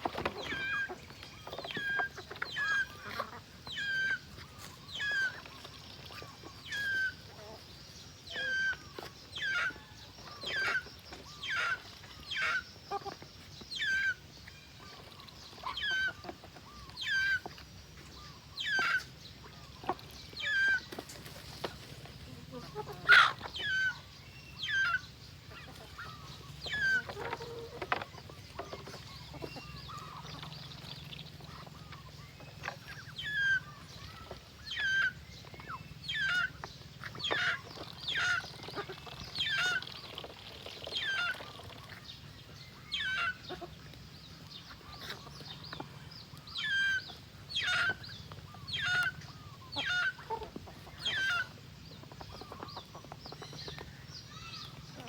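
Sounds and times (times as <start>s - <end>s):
poultry calling: 0.0s - 55.0s.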